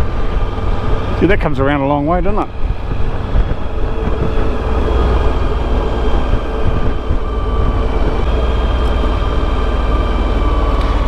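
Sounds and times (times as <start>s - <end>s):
motorcycle engine cruising: 0.0s - 11.0s
road noise: 0.0s - 11.0s
wind rumble: 0.0s - 11.0s.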